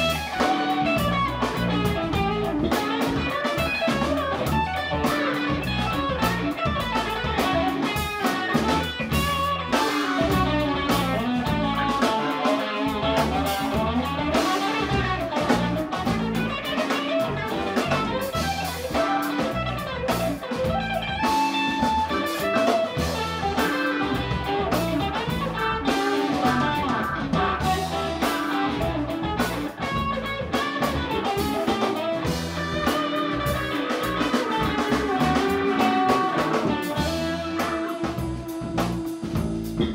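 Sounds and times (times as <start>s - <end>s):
drum kit: 0.0s - 39.9s
electric bass: 0.0s - 39.9s
electric guitars: 0.0s - 39.9s
keyboard: 0.0s - 39.9s.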